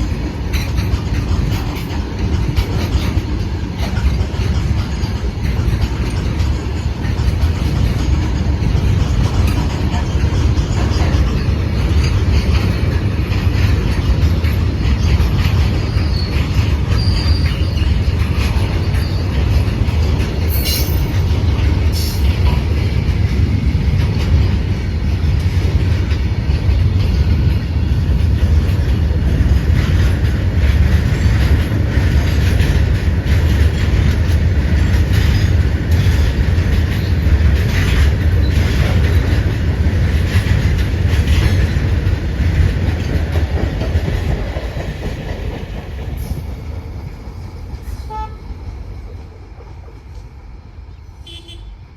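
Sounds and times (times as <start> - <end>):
wheels clicking over rail joints: 0.0 - 50.6
train rumbling on rails: 0.0 - 51.9.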